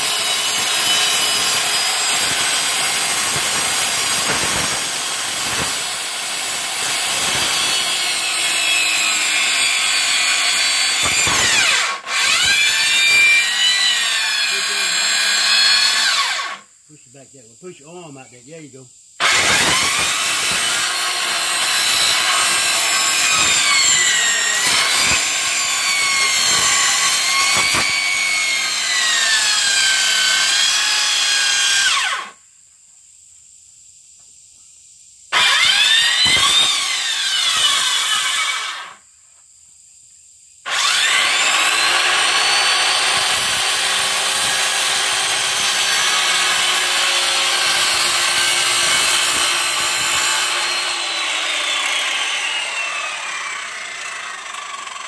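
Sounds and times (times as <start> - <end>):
circular saw cutting wood: 0.0 - 16.7, 19.2 - 32.4, 35.3 - 39.0, 40.7 - 55.0.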